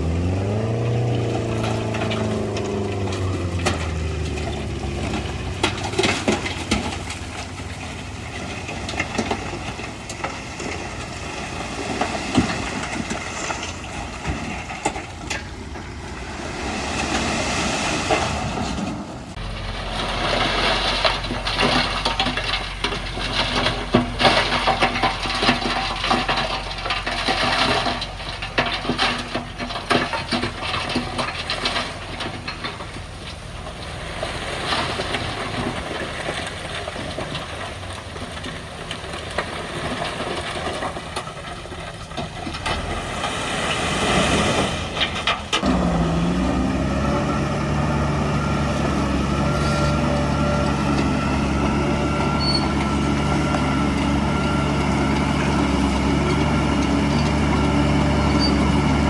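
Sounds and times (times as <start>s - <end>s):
diesel machinery engine: 0.0s - 59.0s
soil and rock crunching: 0.0s - 59.0s.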